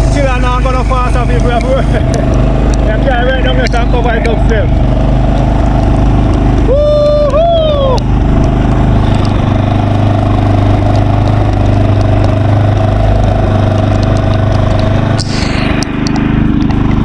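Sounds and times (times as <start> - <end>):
tiller engine running: 0.0 - 17.0.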